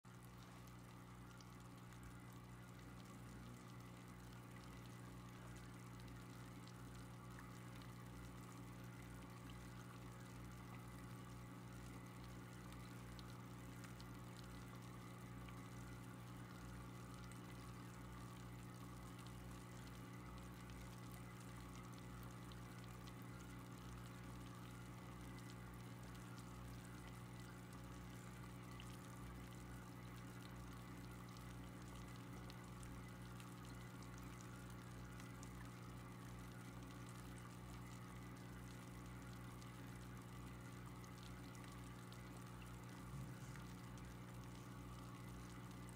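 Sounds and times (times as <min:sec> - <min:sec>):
aquarium filter hum: 0:00.0 - 0:45.9
water trickling: 0:00.1 - 0:45.9.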